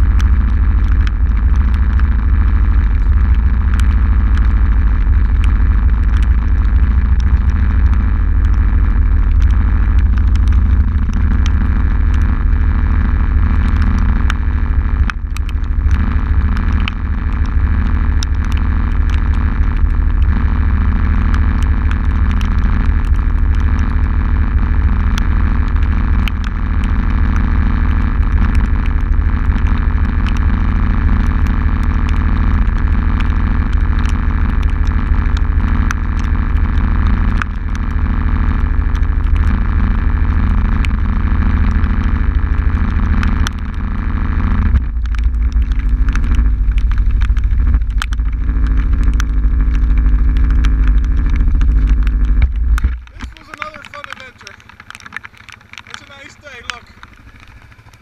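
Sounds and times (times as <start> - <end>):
atv engine idling: 0.0 - 58.0
heavy rain striking camera: 0.0 - 58.0.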